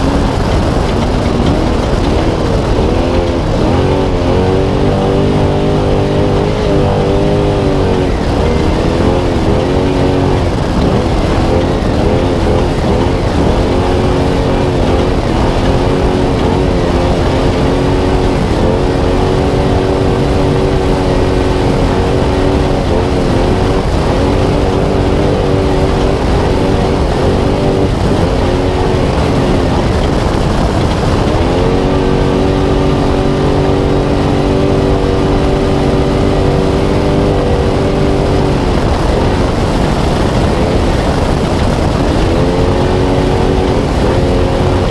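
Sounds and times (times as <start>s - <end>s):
steady rushing noise: 0.0s - 44.9s
truck engine revving: 0.0s - 44.9s.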